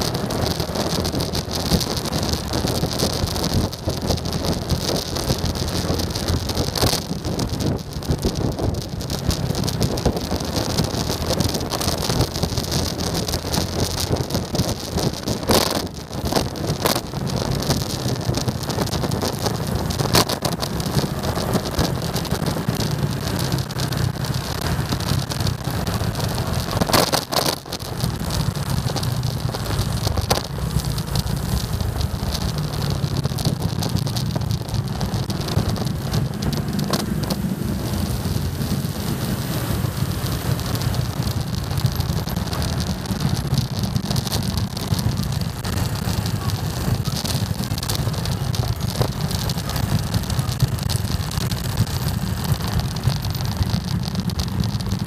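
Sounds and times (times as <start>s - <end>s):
motorcycle engine hum: 0.0s - 55.0s
wind rushing over microphone: 0.0s - 55.0s.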